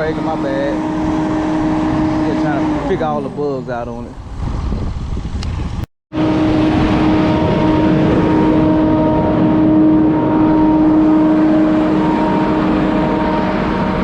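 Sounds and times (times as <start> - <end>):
engine droning steadily: 0.0 - 14.0.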